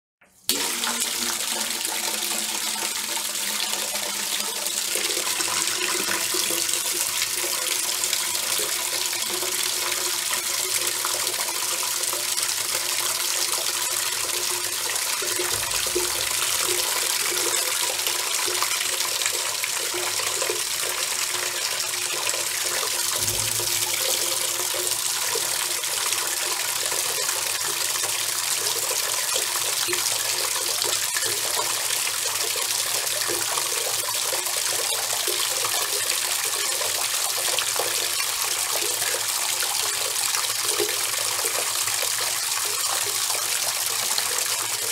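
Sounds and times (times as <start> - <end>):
water pouring into bucket: 0.4 - 44.9.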